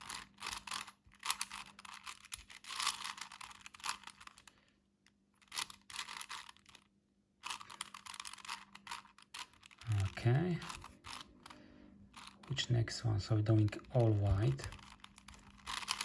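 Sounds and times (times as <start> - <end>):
puzzle cube clicking: 0.0 - 4.5, 5.4 - 6.8, 7.4 - 12.6, 13.4 - 16.0.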